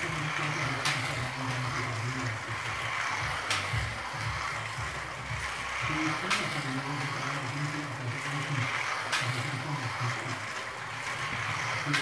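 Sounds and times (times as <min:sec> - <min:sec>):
slot car motors buzzing: 0:00.0 - 0:12.0.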